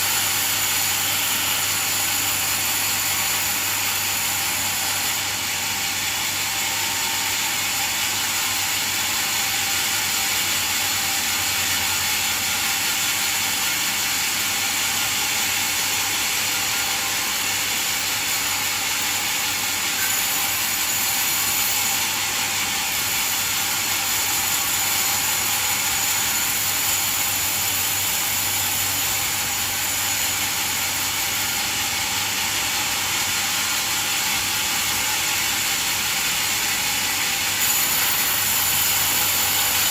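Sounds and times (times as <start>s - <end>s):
band saw sawing log: 0.0s - 32.5s.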